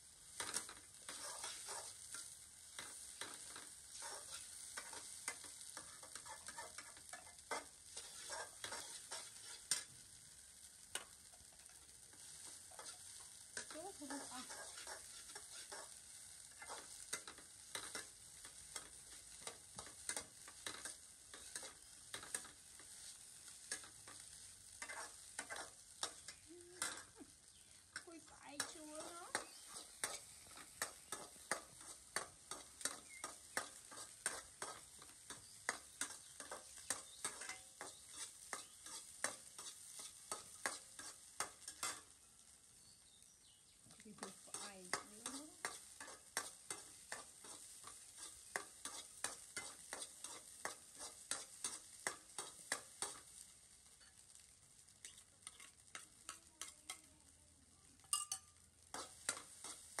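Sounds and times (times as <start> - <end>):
food sizzling in hot oil: 0.0 - 60.0
metal spatula scraping a wok: 0.3 - 43.0, 44.2 - 57.1, 57.9 - 60.0.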